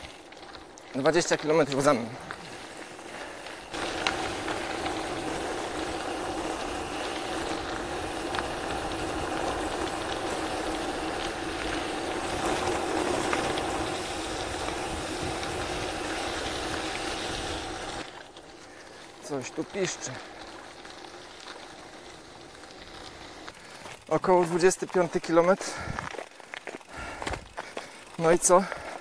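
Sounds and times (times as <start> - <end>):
bicycle tyres rolling: 0.0 - 29.0.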